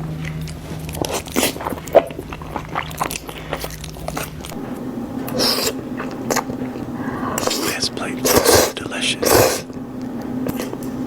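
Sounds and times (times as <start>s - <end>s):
crunchy chewing: 0.0s - 11.0s
faint low hum: 0.0s - 11.0s.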